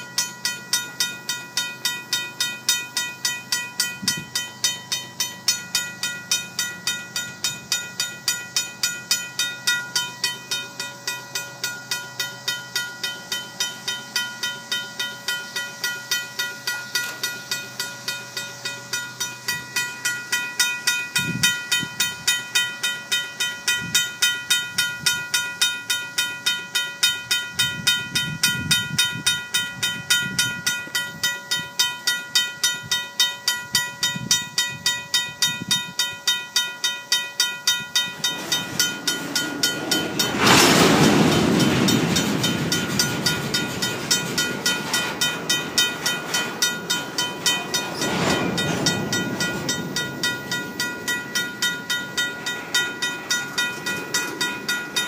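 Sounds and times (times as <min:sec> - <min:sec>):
crossing bell ringing: 0:00.0 - 0:55.0
train wheels rumbling on rails: 0:00.0 - 0:55.0.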